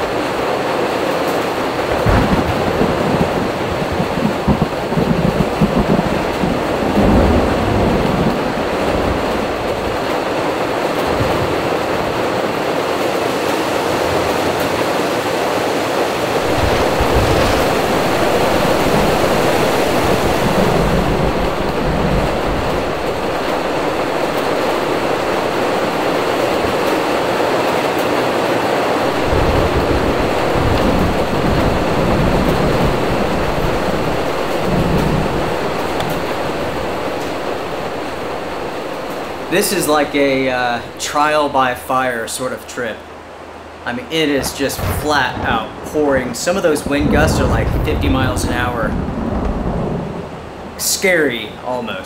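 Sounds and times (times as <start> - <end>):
gusting wind rumbling: 0.0 - 51.6
heavy rain pouring: 0.0 - 52.0.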